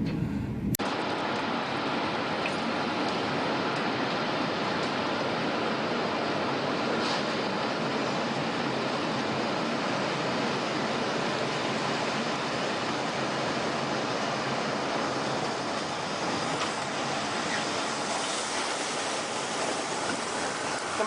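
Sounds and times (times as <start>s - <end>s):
rushing storm wind: 0.0s - 21.0s.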